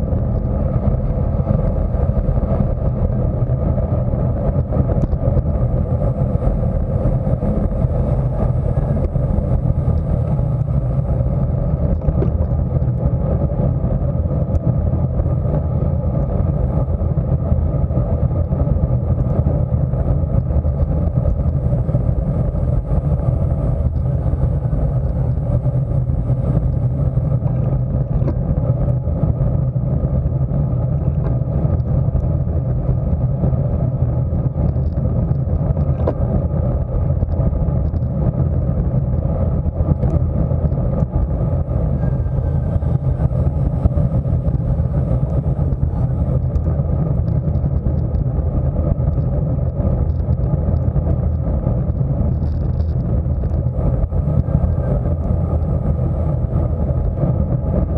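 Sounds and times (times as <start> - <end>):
road noise: 0.0 - 57.9
wind rush: 0.0 - 57.9.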